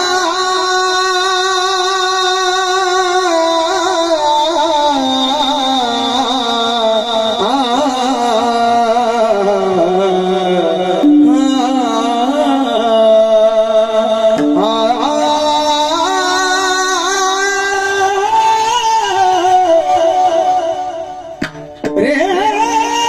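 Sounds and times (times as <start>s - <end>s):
man singing with ornaments: 0.0s - 23.0s.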